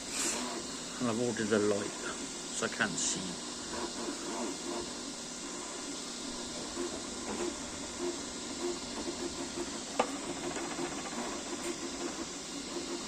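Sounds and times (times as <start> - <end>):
cooling fans hissing: 0.0 - 13.0.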